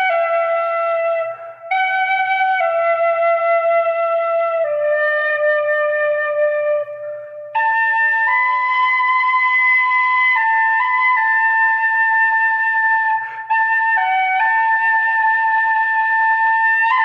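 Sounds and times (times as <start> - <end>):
flute playing slow melody: 0.0 - 17.0.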